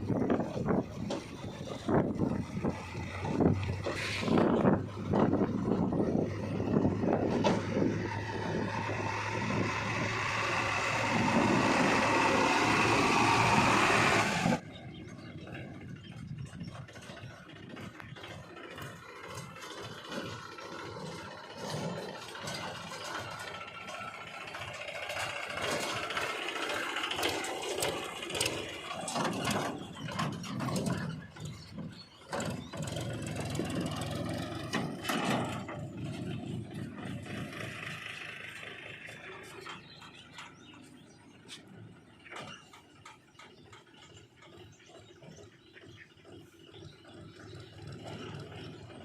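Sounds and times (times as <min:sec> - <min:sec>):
diesel engine working under load: 0:00.0 - 0:49.0.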